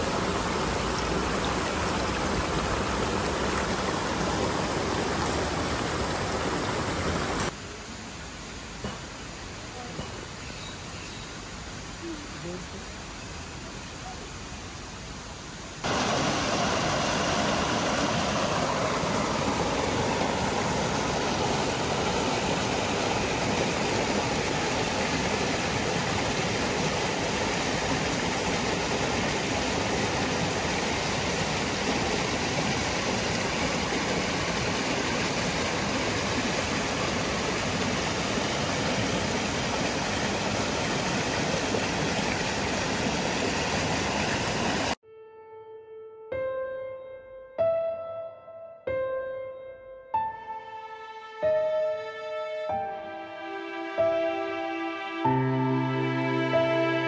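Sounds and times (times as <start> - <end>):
stream rushing over rocks: 0.0 - 10.4, 11.5 - 45.0, 53.5 - 57.0.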